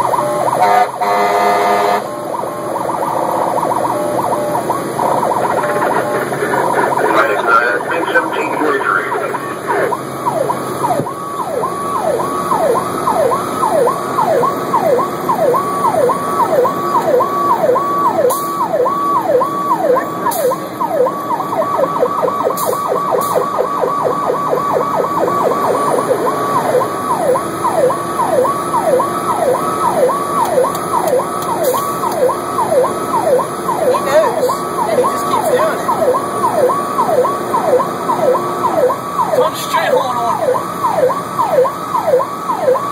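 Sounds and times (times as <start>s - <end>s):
electronic siren yelping: 0.0s - 42.9s.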